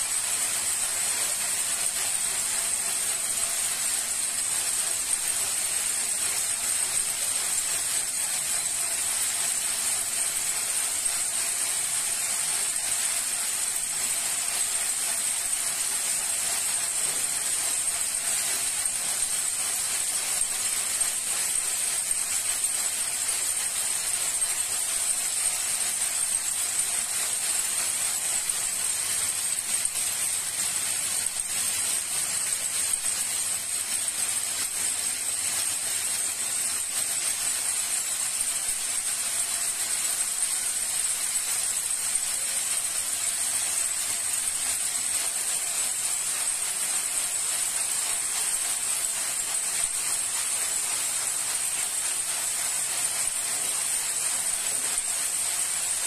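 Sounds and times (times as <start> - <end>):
braiding machine whirring: 0.0 - 56.0.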